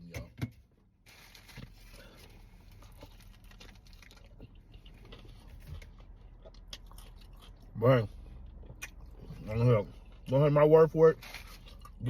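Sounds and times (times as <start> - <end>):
eating and food handling: 1.1 - 12.0.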